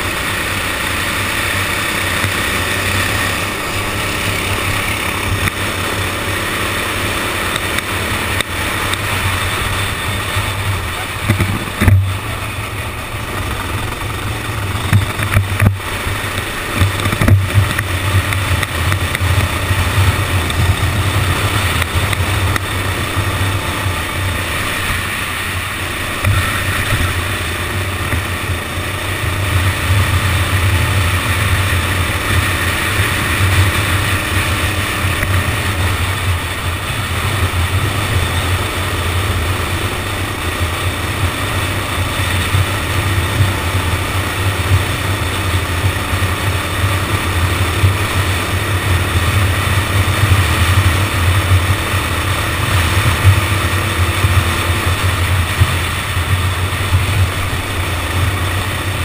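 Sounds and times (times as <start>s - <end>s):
go-kart engine running: 0.0s - 59.0s
steady rushing noise: 0.0s - 59.0s.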